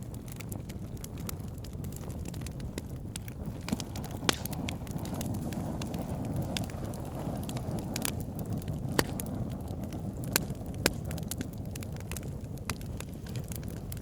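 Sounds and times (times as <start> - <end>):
campfire crackling: 0.0 - 14.0
sharp pops of fire: 0.0 - 14.0.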